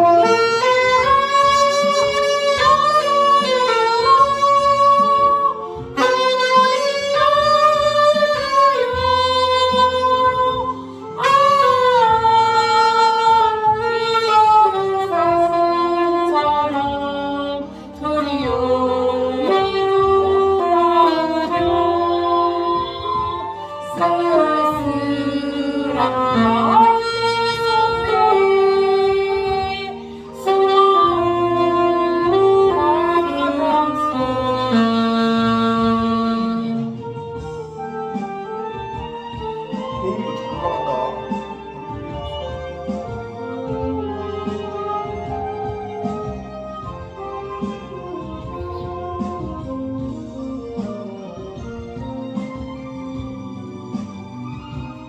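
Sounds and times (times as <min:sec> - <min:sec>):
backing accompaniment: 0:00.0 - 0:55.0
saxophone melody: 0:00.0 - 0:55.0.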